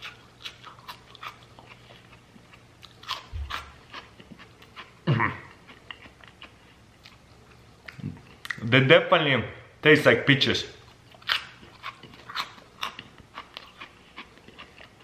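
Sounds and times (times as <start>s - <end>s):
crunchy chewing: 0.0s - 8.6s, 10.8s - 15.0s.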